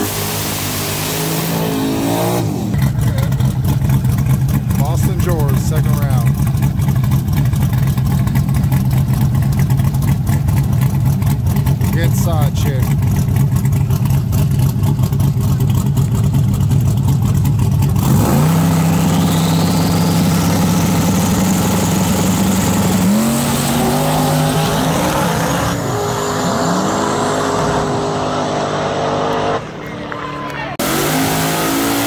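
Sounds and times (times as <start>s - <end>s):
drag car engine revving: 0.0s - 32.0s.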